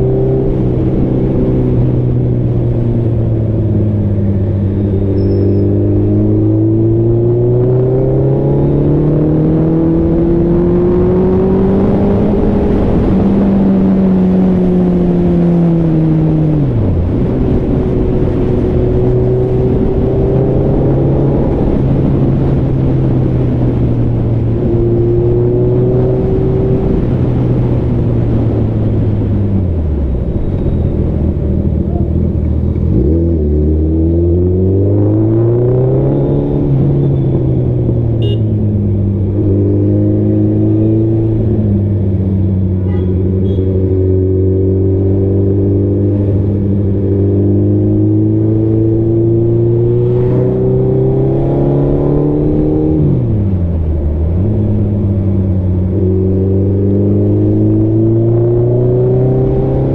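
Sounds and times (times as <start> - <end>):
motorcycle engine revving: 0.0 - 29.4, 30.2 - 59.9.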